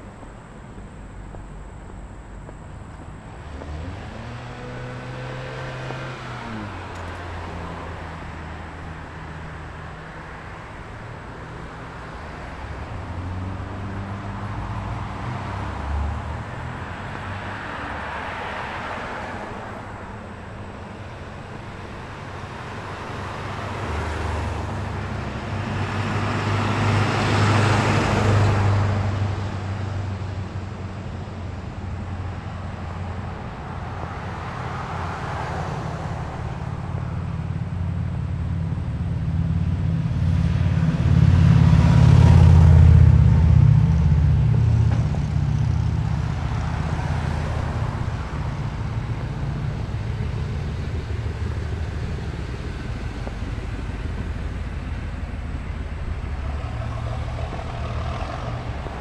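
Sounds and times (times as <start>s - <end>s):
cars passing: 0.0s - 59.0s
low engine hum: 0.0s - 59.0s.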